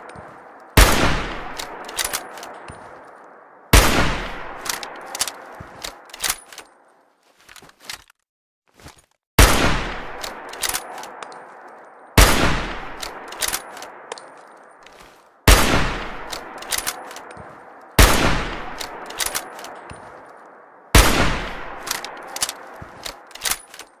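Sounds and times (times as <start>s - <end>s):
rifle shots echoing: 0.0s - 6.5s, 9.4s - 14.8s, 15.4s - 23.7s
sharp metallic clicks: 0.0s - 6.8s, 9.9s - 24.0s.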